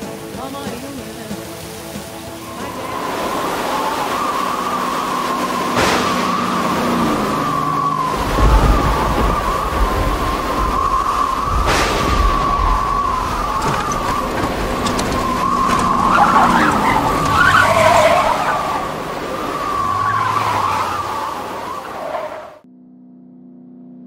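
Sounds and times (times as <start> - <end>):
rushing wind: 0.0 - 22.6
howling wind whistle: 1.5 - 22.7.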